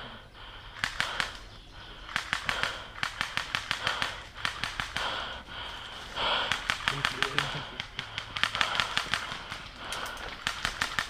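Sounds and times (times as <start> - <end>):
airsoft guns firing: 0.8 - 11.0.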